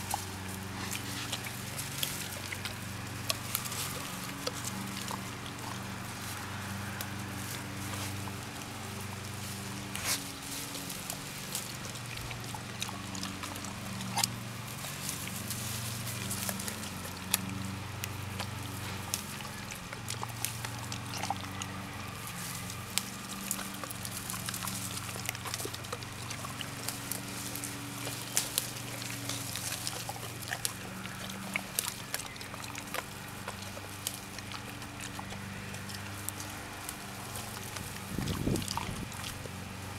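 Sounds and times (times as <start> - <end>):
dogs chewing berries: 0.0 - 39.9
leaves rustling: 0.0 - 39.9
low steady hum: 0.0 - 39.9.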